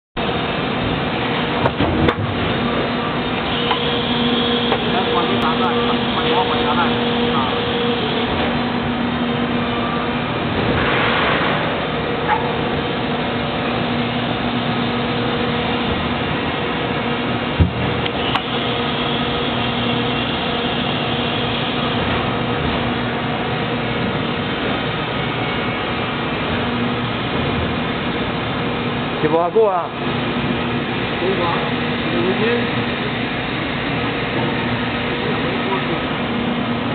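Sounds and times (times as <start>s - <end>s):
hydraulic machine hum: 0.2s - 36.9s.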